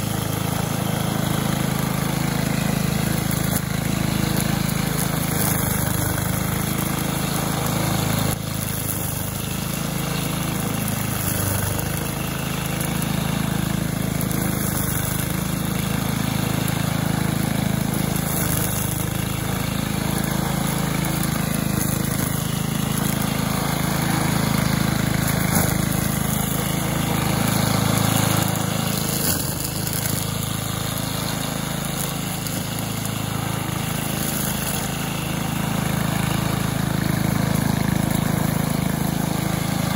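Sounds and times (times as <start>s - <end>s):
string trimmer engine running: 0.0s - 39.9s.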